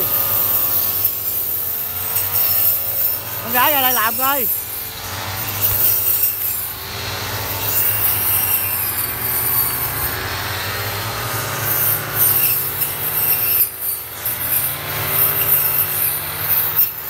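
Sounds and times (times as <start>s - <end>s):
brush cutters cutting grass: 0.0s - 17.0s.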